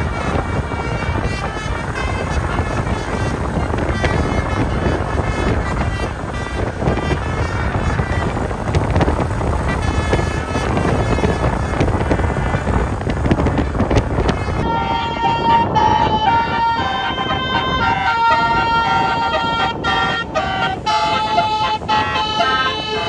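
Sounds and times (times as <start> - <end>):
loud vehicle noise: 0.0 - 23.0
multi-note musical bus horn: 0.0 - 23.0.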